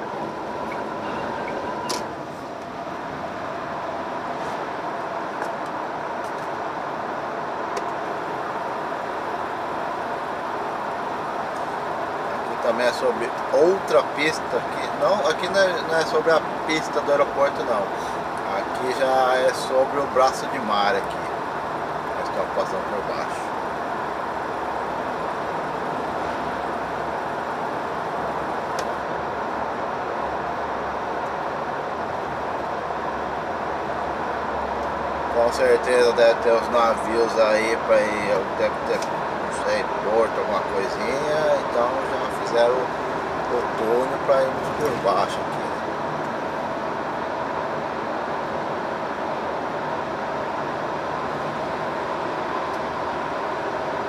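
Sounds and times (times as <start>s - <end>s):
truck road and engine noise: 0.0s - 54.0s.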